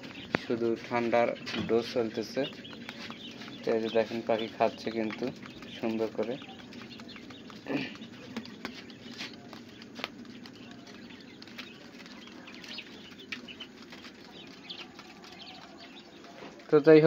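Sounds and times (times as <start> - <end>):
beaks tapping on feed trough: 0.0 - 17.0.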